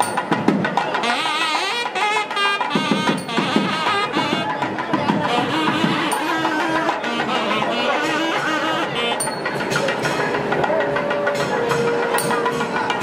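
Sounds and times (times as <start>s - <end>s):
drum strokes: 0.0s - 13.0s
double-reed pipe melody: 1.0s - 13.0s.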